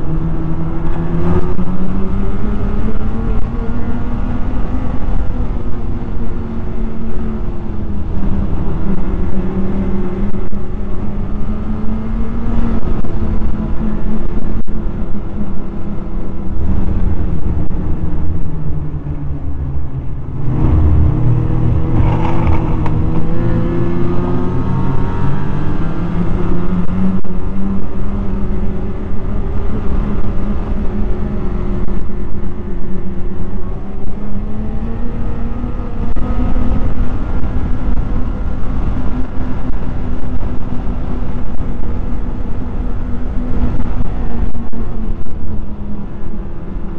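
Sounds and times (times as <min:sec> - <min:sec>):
snowmobile engine running: 0:00.0 - 0:46.9.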